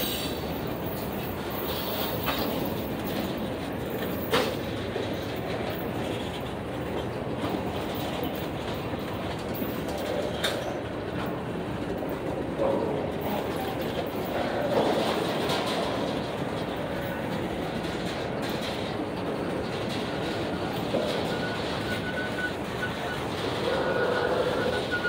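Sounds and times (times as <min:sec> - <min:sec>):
train wheels rumbling on rails: 0:00.0 - 0:25.0
wheels clacking on track: 0:00.0 - 0:25.0.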